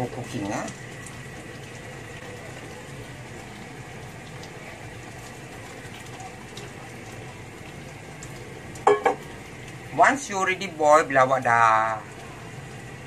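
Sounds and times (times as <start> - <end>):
gravy bubbling in pot: 0.0 - 13.0.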